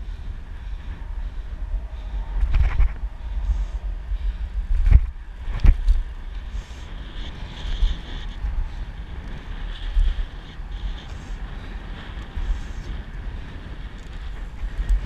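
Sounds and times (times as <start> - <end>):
low rumble of bicycle: 0.0 - 15.0
wind buffeting microphone: 0.0 - 15.0.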